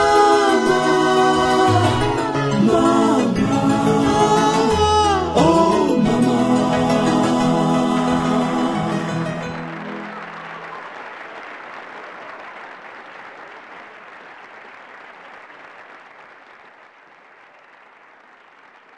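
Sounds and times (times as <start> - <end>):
crowd applause: 0.0 - 18.9.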